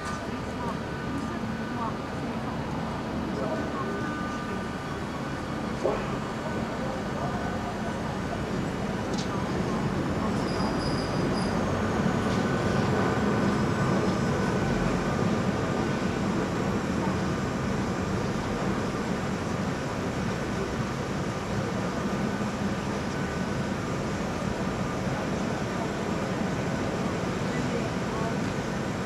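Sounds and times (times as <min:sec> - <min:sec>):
funicular car rumbling on rails: 0:00.0 - 0:29.0.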